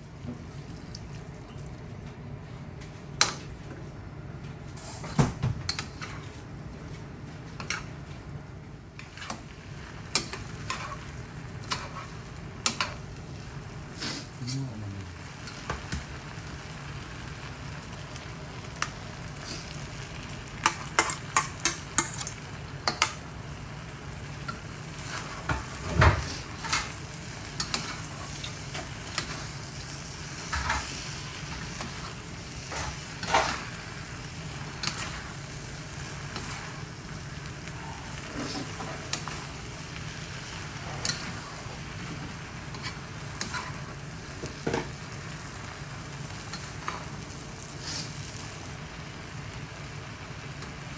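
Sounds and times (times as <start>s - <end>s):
noodles sizzling in a wok: 4.7s - 50.9s.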